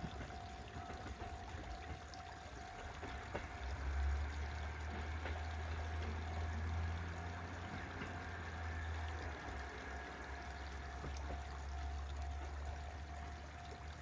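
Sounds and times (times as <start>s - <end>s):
constant hiss: 0.0s - 14.0s
diesel railcar engine rumble: 0.0s - 14.0s.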